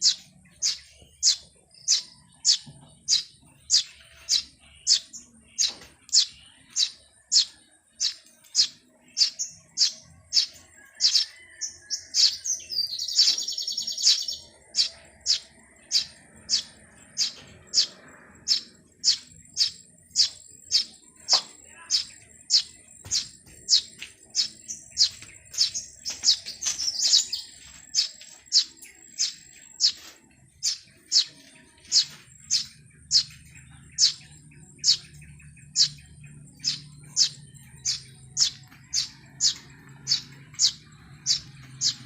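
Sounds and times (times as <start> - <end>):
bird chirping: 0.0 - 42.0
fast bird chattering: 0.0 - 42.0.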